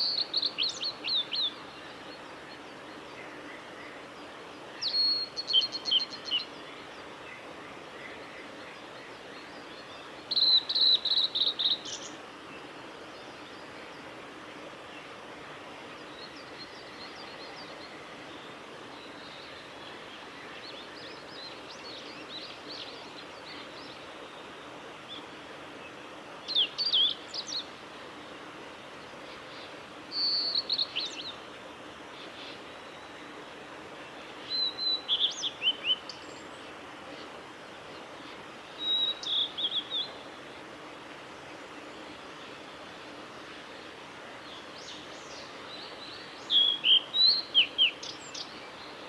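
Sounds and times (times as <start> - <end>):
background hiss: 0.0 - 49.0.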